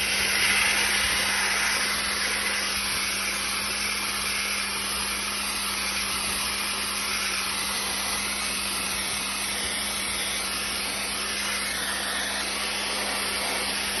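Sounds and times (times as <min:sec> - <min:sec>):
dry ice blasting gun hissing: 0:00.0 - 0:14.0.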